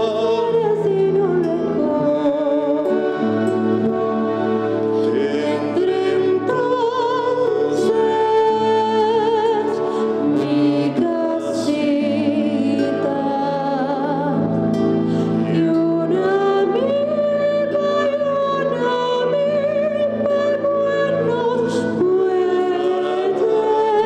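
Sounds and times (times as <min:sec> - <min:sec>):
woman singing with vibrato: 0:00.0 - 0:14.6, 0:15.3 - 0:24.0
acoustic guitar: 0:00.0 - 0:24.0.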